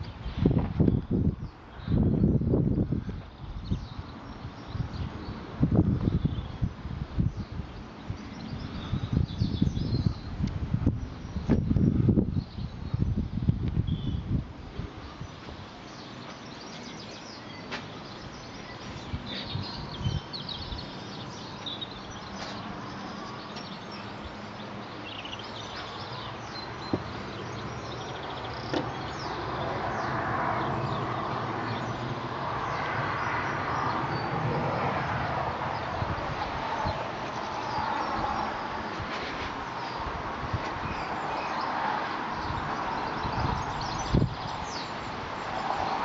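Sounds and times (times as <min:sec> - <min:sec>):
birds chirping: 0:00.0 - 0:13.2, 0:14.9 - 0:46.0
broad rushing noise: 0:00.0 - 0:46.0.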